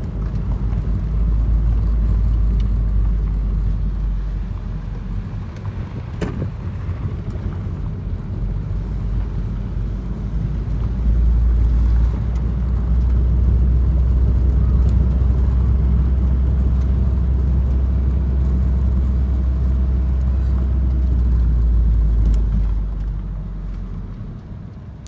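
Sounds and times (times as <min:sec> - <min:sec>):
car engine rumble: 0:00.0 - 0:25.0
tyres on gravel road: 0:00.0 - 0:25.0.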